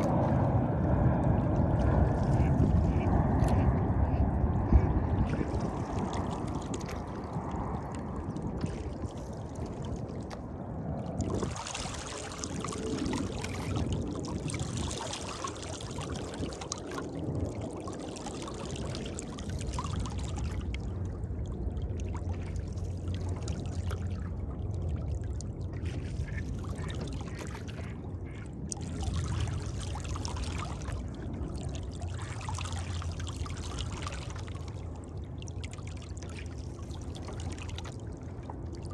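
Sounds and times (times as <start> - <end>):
oars splashing: 0.0 - 38.9
water splashing against boat hull: 0.0 - 38.9.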